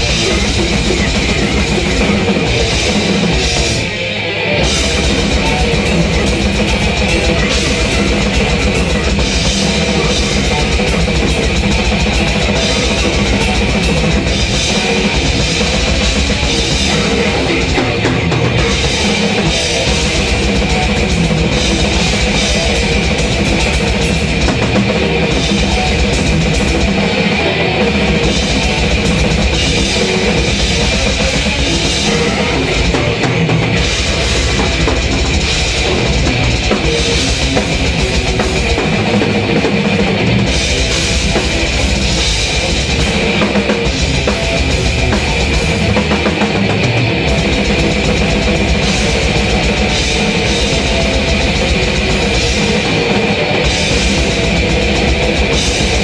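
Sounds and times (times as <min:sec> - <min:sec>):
drum kit with cymbals: 0:00.0 - 0:56.0
heavy metal song: 0:00.0 - 0:56.0.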